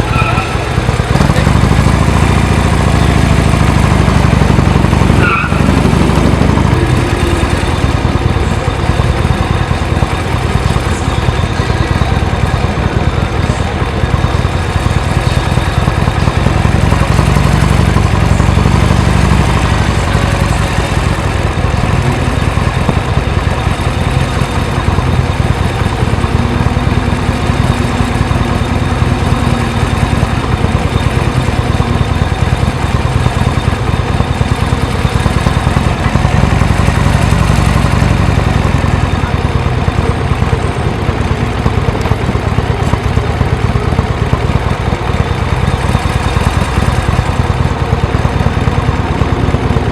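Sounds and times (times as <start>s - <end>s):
vehicle engine idling: 0.0s - 49.9s.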